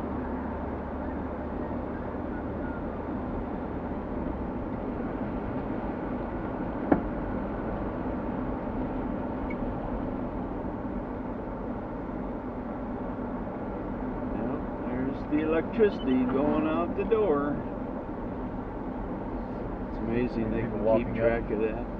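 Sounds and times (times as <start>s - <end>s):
car road and engine noise: 0.0s - 21.9s.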